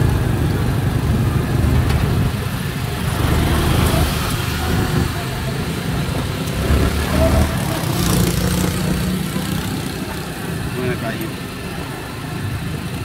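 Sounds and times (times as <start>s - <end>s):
street traffic: 0.0s - 13.0s
vehicle engine rumble: 0.0s - 13.0s.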